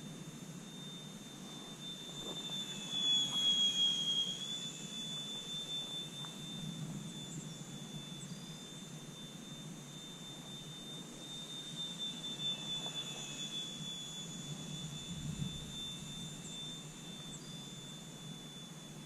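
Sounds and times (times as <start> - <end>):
model airplane motor whining: 0.0 - 19.0.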